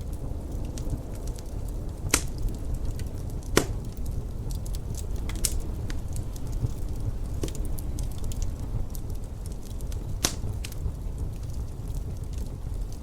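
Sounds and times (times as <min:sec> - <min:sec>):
fire popping: 0:00.0 - 0:13.0
low rumble: 0:00.0 - 0:13.0
wood fire crackling: 0:00.0 - 0:13.0.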